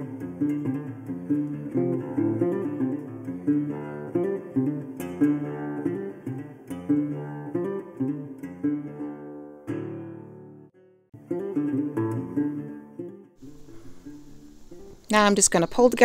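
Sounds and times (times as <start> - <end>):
acoustic guitar picking: 0.0 - 15.3.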